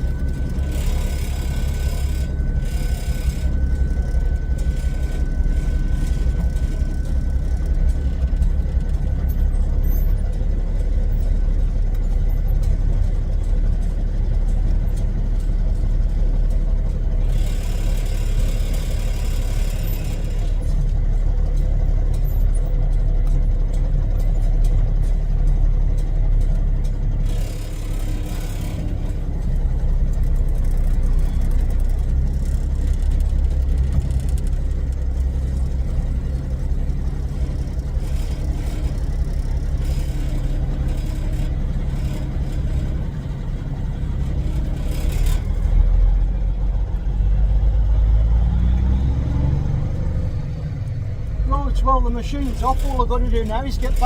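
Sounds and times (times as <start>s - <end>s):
diesel engine running at low revs: 0.0s - 54.0s.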